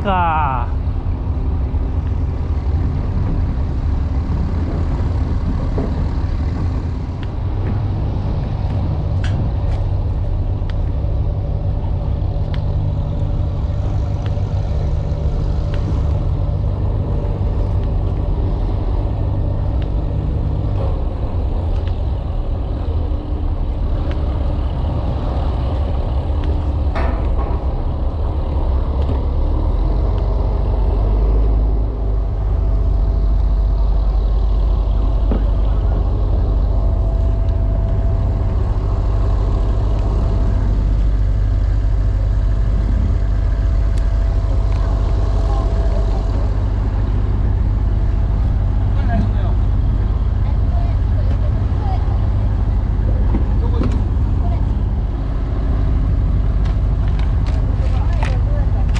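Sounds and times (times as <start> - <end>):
engine droning: 0.0 - 58.9.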